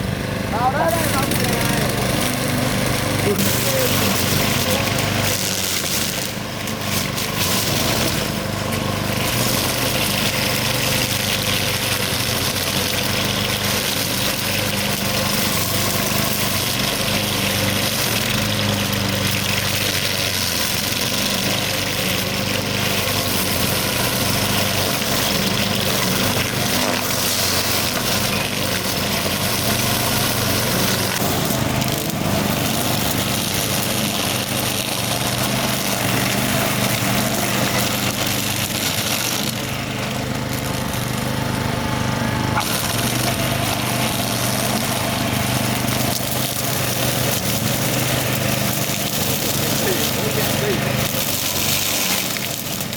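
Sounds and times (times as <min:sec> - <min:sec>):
string trimmer engine running: 0:00.0 - 0:52.9.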